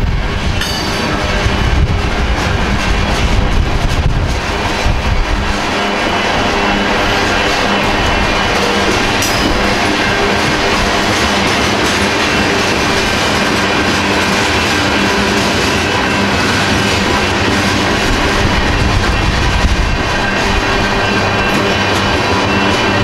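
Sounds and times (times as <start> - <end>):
freight train rolling past: 0.0 - 23.0
wheels clacking over rail joints: 0.4 - 23.0.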